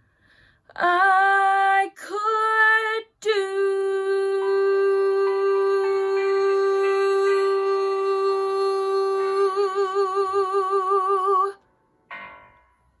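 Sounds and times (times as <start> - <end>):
woman singing long note: 0.8 - 11.6.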